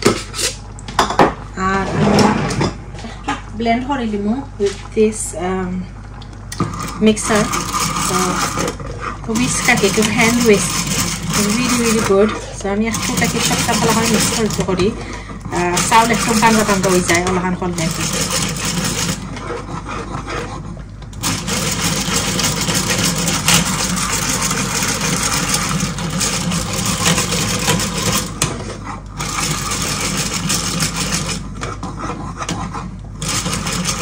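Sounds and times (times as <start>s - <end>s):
beaters scraping pot: 6.5s - 34.0s
egg beater gears whirring: 6.5s - 34.0s.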